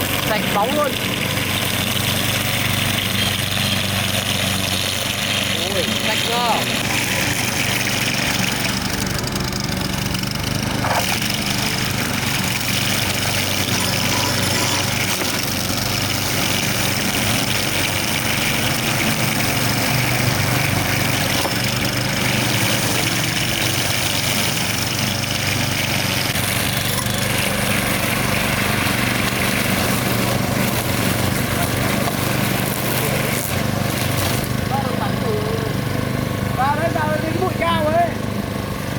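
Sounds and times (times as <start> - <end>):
string trimmer engine running: 0.0 - 38.9
trimmer line cutting grass: 0.0 - 38.9.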